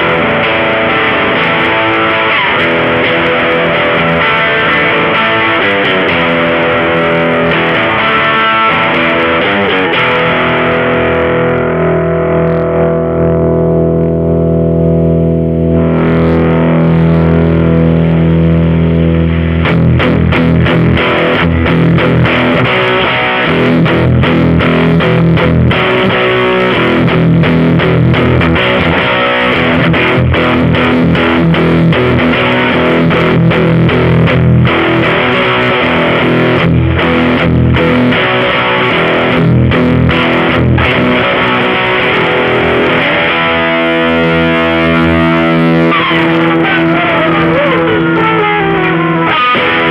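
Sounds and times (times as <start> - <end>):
distorted electric guitar: 0.0 - 49.9.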